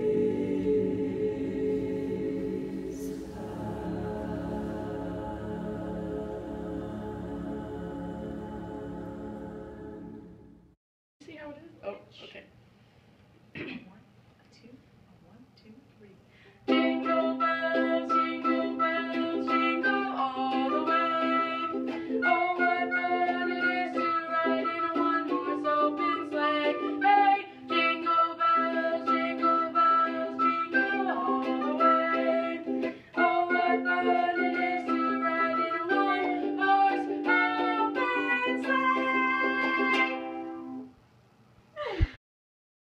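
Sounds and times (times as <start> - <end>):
ukulele strumming chords: 0.0 - 10.3, 16.7 - 40.9.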